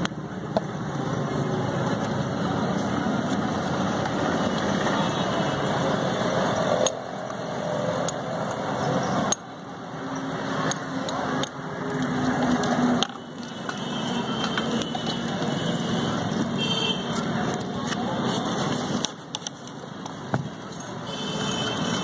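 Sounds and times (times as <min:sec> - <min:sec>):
street noise: 0:00.0 - 0:22.0.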